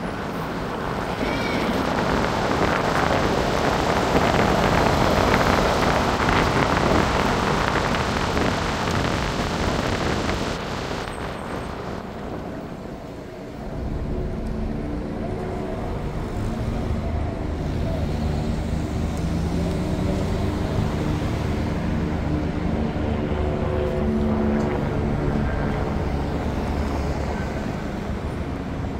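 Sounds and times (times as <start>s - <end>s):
vehicle engines running: 0.0s - 28.9s.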